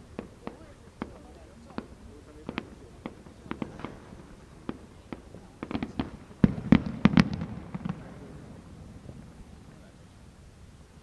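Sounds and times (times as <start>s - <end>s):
fireworks bangs: 0.0s - 10.3s.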